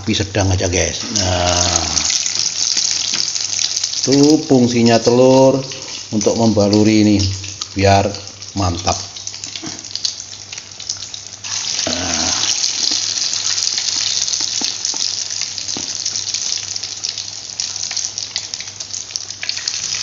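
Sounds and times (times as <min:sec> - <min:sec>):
patties sizzling in hot oil: 0:00.0 - 0:20.0.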